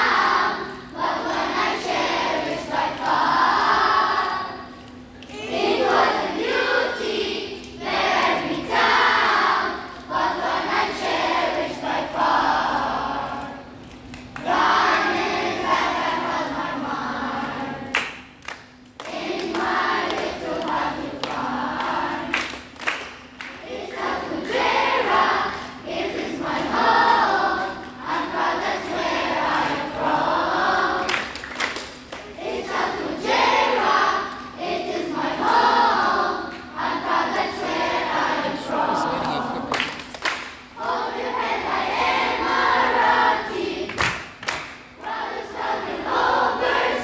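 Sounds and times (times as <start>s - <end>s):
children's choir singing: 0.0s - 18.4s, 19.0s - 22.9s, 23.5s - 47.0s.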